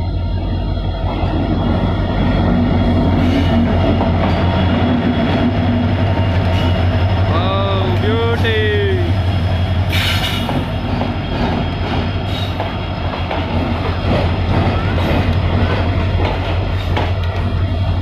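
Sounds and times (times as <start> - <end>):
locomotive engine drone: 0.0 - 18.0
train wheels clicking over rail joints: 1.0 - 7.3, 9.2 - 18.0.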